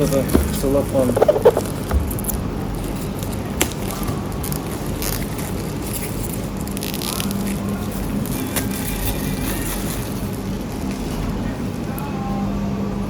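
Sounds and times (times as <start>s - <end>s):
steady background hum: 0.0s - 13.0s
cellophane crinkling: 0.1s - 11.4s.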